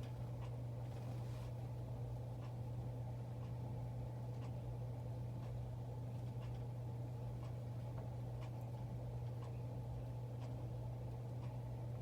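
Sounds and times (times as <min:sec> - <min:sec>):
ceiling fan motor hum: 0:00.0 - 0:12.0
faint fan tick: 0:00.0 - 0:12.0.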